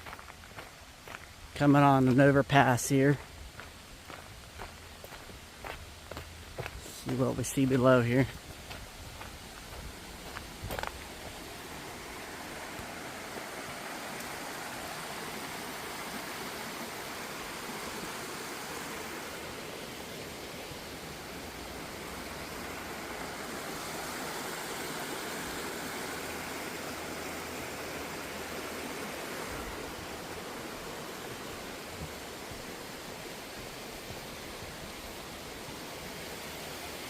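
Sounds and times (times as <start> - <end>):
stream rapids rushing: 0.0 - 37.0.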